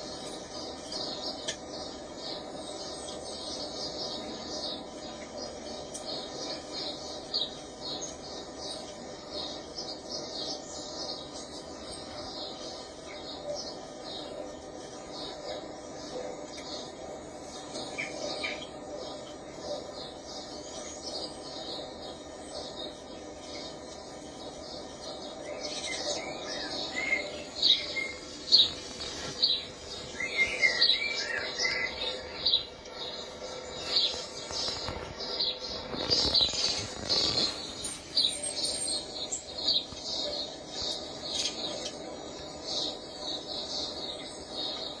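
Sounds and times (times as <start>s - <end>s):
birds chirping through tv speaker: 0.0s - 45.0s
faint steady hum: 0.0s - 45.0s.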